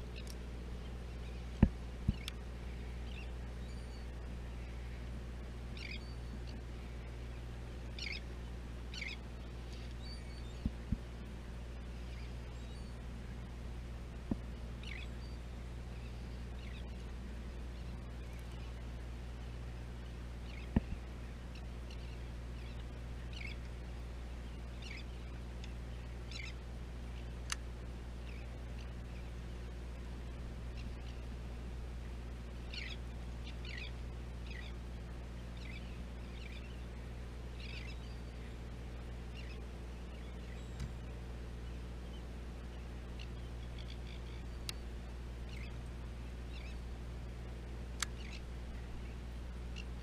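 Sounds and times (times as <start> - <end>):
gulls calling: 0.0 - 11.1, 14.2 - 27.6, 32.0 - 50.0
boat engine humming: 0.0 - 50.0
seabirds chirping: 0.1 - 10.9, 11.8 - 13.5, 14.8 - 50.0.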